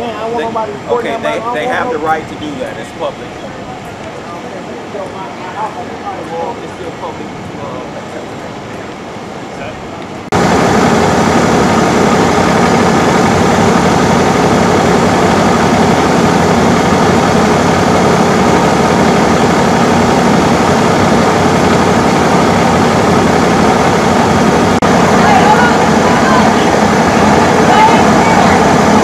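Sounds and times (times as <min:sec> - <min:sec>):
heavy vehicle engine idling: 0:00.0 - 0:29.0.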